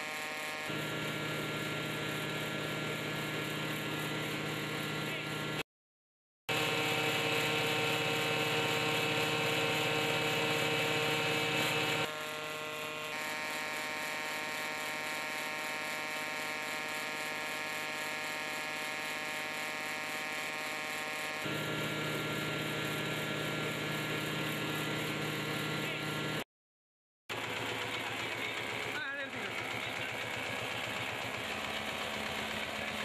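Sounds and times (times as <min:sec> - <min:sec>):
engine buzzing hum: 0:00.0 - 0:05.6, 0:06.5 - 0:26.4, 0:27.3 - 0:33.0.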